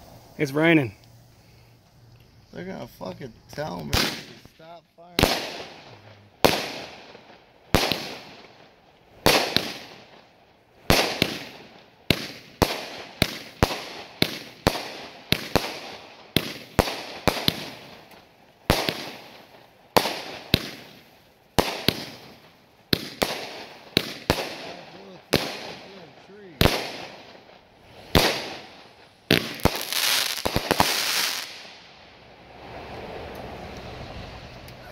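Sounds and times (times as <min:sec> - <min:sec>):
fireworks bangs: 0:02.5 - 0:32.0.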